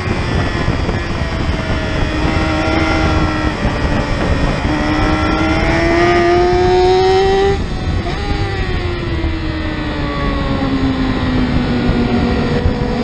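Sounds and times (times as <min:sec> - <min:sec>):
motorcycle engine at high revs: 0:00.0 - 0:13.0
wind and road noise: 0:00.0 - 0:13.0.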